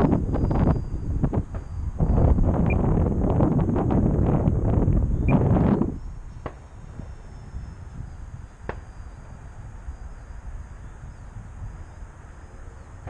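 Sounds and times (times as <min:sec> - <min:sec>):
distant model plane motor whine: 0:00.0 - 0:13.0
wind buffeting microphone: 0:00.0 - 0:13.0.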